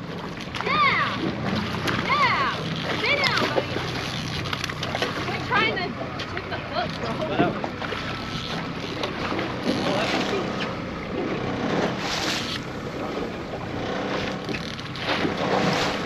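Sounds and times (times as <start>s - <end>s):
outboard motor running: 0.0s - 16.0s
sea water washing: 0.0s - 16.0s.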